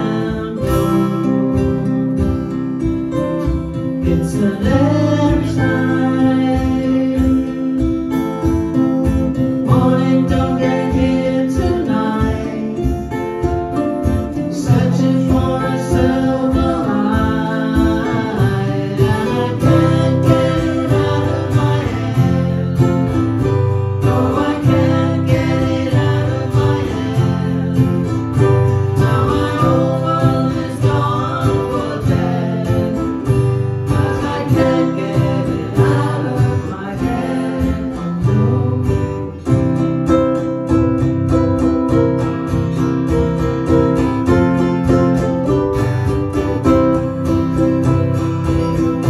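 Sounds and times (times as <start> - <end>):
person singing: 0.0 - 41.1
acoustic guitar strumming: 0.0 - 49.0
ukulele strumming: 0.0 - 49.0.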